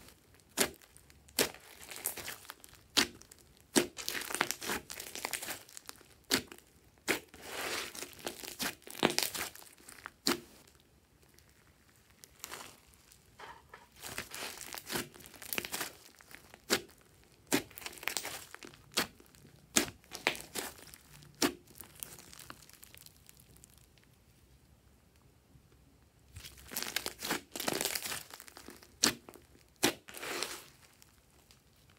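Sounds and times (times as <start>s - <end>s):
slime popping and crackling: 0.0s - 24.1s, 26.3s - 31.9s.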